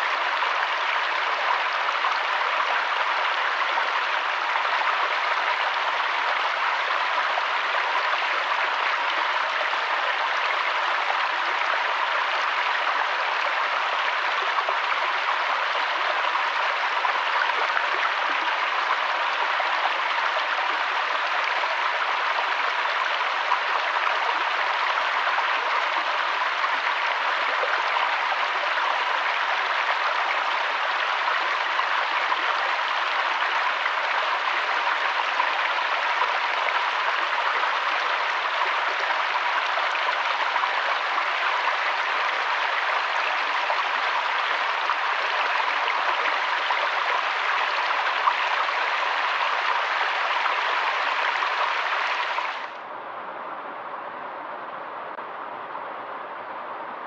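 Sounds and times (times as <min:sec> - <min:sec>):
stream flowing over stones: 0:00.0 - 0:52.8.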